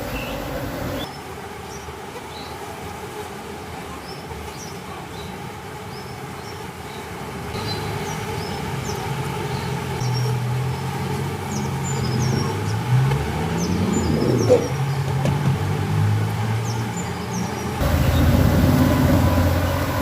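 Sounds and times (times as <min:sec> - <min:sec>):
small birds chirping: 0:00.0 - 0:02.6, 0:03.9 - 0:15.2, 0:16.3 - 0:20.0
bees buzzing: 0:00.0 - 0:20.0.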